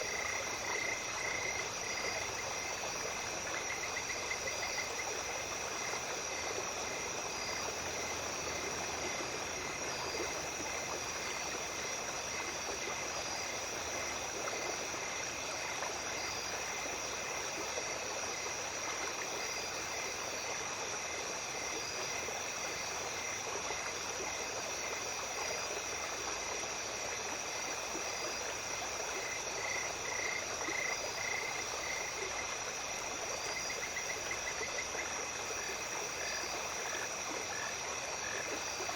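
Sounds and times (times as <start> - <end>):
insects trilling and chirping: 0.0 - 38.9
stream running: 0.0 - 38.9.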